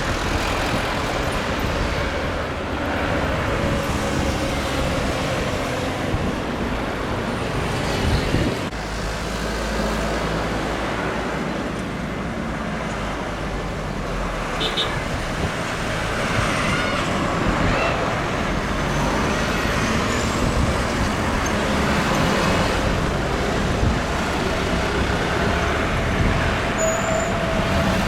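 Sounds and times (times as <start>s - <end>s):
engine and traffic noise: 0.0s - 28.0s.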